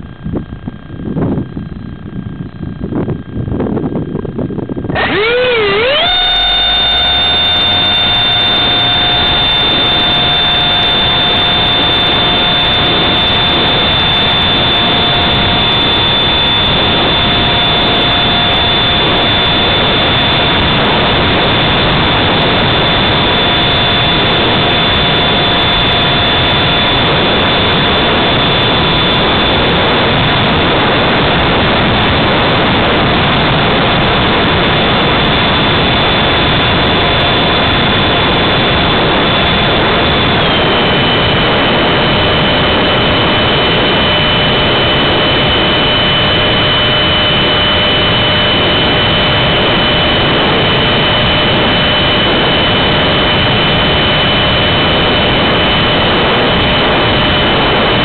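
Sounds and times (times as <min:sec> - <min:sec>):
electric ducted fan whine: 0:00.0 - 0:58.0.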